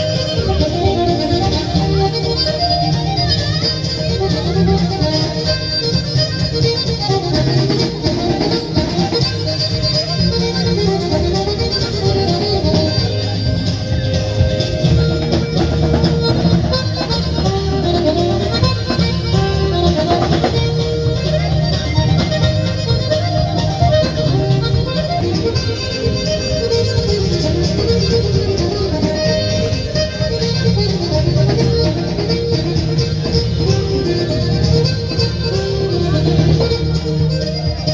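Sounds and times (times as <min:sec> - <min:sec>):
strumming guitar: 0:00.0 - 0:37.9
traditional folk melody instruments: 0:00.0 - 0:37.9.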